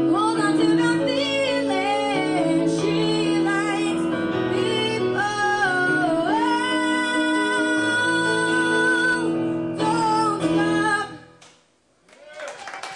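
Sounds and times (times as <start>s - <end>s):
girl singing a ballad: 0.0s - 11.4s.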